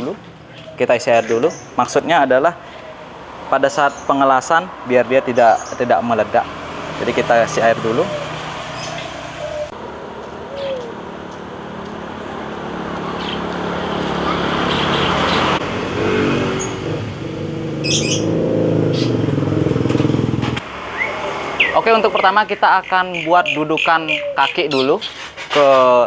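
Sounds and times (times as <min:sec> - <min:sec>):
vehicle engine hum: 0:00.0 - 0:24.3
passing road traffic: 0:00.0 - 0:25.6.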